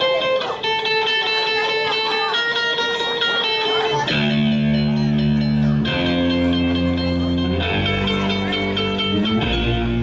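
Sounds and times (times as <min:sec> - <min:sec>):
bass guitar: 0:00.0 - 0:10.0
electric guitars: 0:00.0 - 0:10.0.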